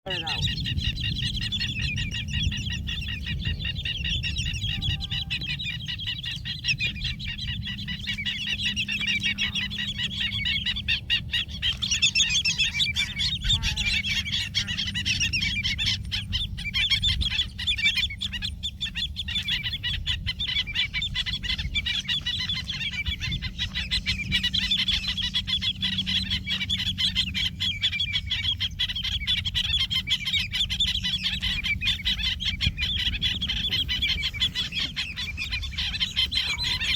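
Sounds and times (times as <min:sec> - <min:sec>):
low rumble: 0:00.0 - 0:36.9
wading birds squawking: 0:00.0 - 0:36.9.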